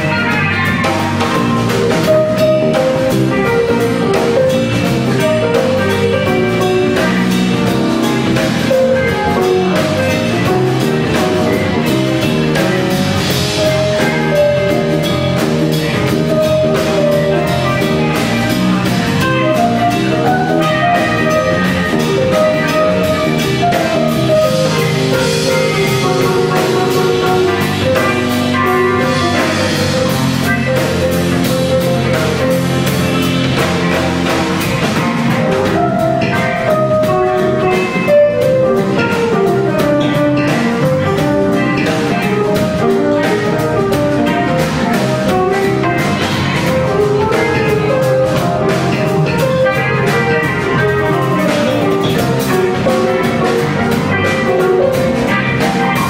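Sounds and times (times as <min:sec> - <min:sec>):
drum kit: 0:00.0 - 0:56.0
electric bass: 0:00.0 - 0:56.0
electric guitar: 0:00.0 - 0:56.0.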